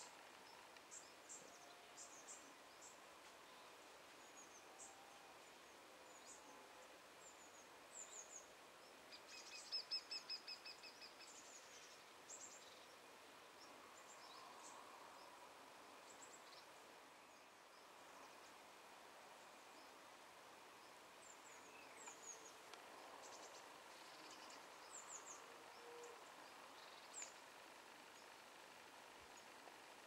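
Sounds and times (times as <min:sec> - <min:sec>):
soft outdoor hiss: 0:00.0 - 0:30.0.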